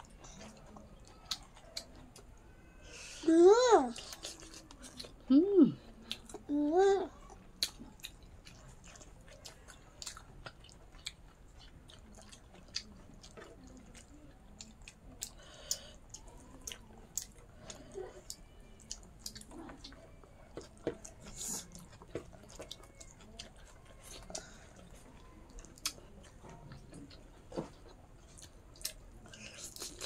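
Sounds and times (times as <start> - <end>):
person chewing food: 0.0 - 2.4, 3.9 - 5.3, 5.9 - 6.5, 7.1 - 30.0.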